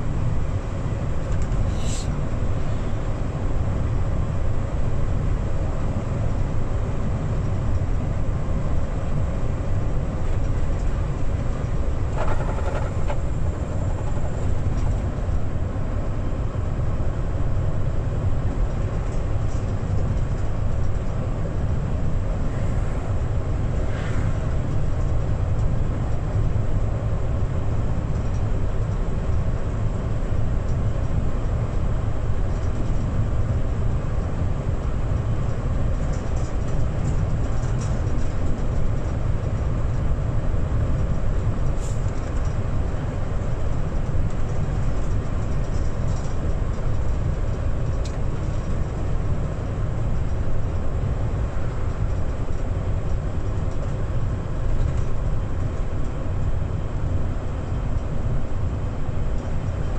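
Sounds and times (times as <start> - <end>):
truck diesel engine rumble: 0.0 - 59.9.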